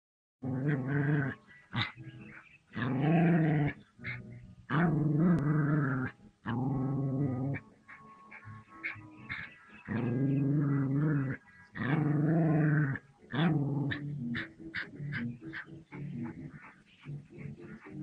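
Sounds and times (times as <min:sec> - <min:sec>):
small dog growling: 0:00.4 - 0:02.0, 0:02.7 - 0:16.6.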